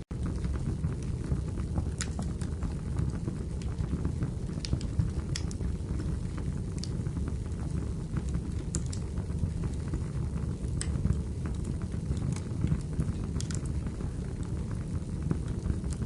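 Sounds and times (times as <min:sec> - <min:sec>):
fire burning in fireplace: 0:00.1 - 0:16.0.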